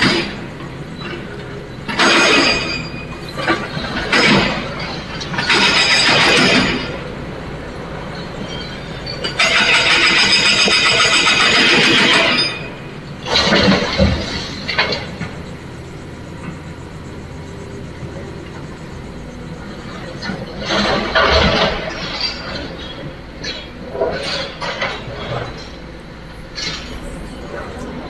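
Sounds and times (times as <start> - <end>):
diesel engine running: 0.0 - 28.0
excavator loading dump truck: 0.0 - 28.0.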